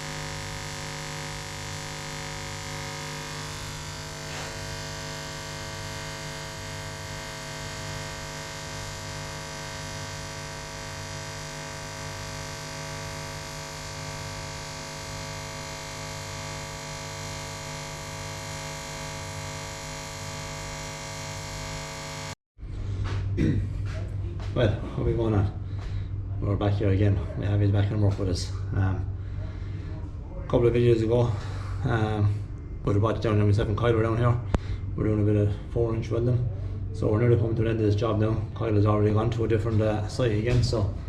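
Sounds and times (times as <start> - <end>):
faint low pulsing: 0.0 - 38.5
electrical hum: 0.0 - 41.0.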